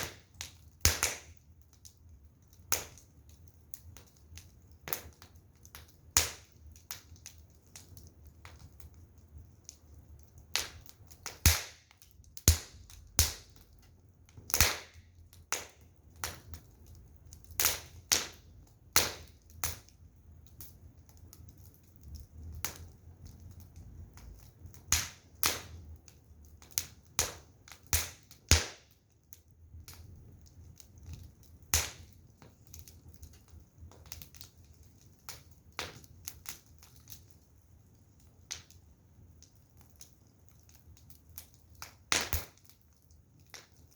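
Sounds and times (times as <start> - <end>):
firewood crackling and popping: 0.0 - 43.9.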